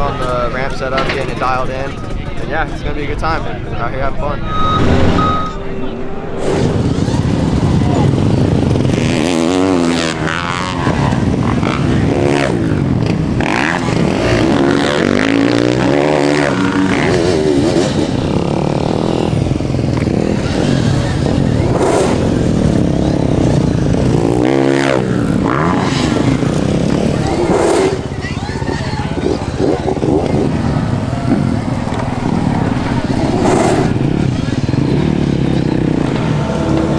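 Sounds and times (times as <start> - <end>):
dirt bike engines revving: 0.0 - 36.9.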